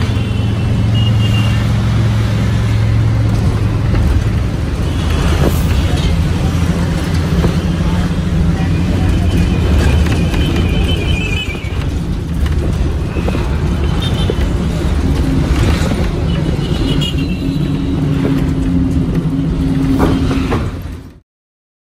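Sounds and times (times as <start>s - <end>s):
traffic engines rumbling: 0.0s - 21.2s.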